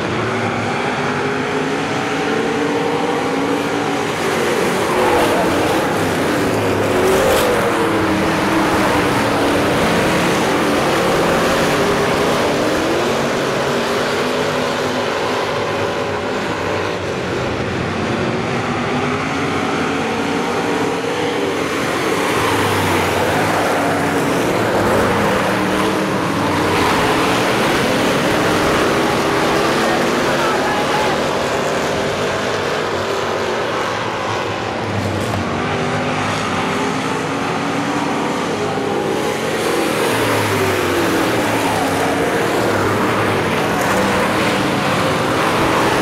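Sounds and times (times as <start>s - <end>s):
race car engines: 0.0s - 46.0s.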